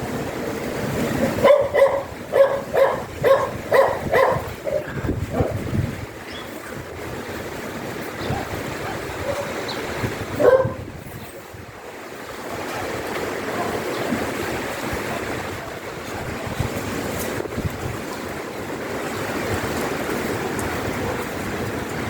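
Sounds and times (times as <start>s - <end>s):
strong wind gusts: 0.0s - 22.0s.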